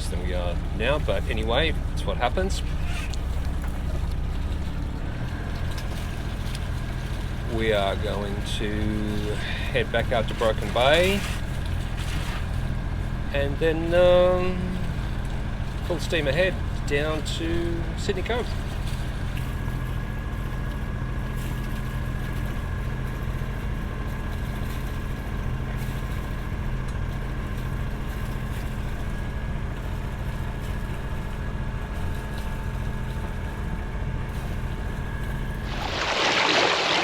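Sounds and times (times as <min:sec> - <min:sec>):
boat engine drone: 0:00.0 - 0:37.0.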